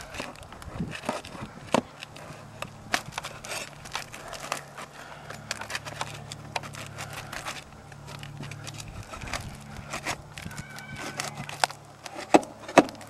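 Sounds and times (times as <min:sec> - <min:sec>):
pry bar scraping under shingles: 0:00.0 - 0:13.0
shingles crackling: 0:00.0 - 0:13.0
steady low hum: 0:00.0 - 0:13.0.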